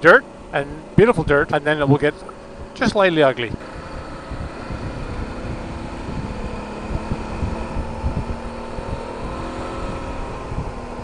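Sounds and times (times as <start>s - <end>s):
motorcycle engine running: 0.0s - 11.0s
wind buffeting on microphone: 0.6s - 11.0s.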